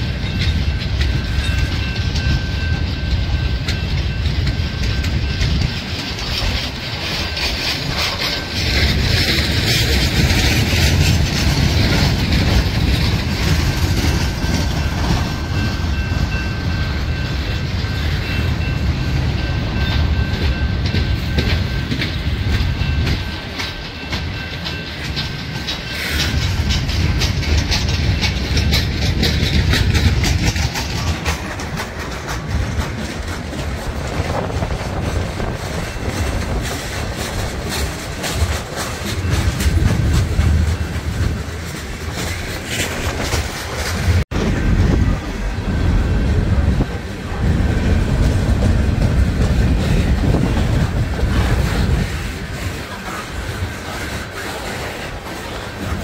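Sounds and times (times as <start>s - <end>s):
train rumbling past: 0.0s - 56.0s
wheels clicking over rail joints: 0.0s - 56.0s.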